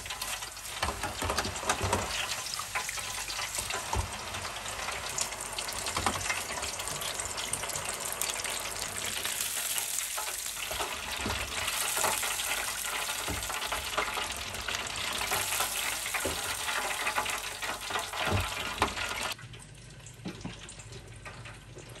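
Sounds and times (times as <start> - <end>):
oil sizzling in deep fryer: 0.0 - 22.0.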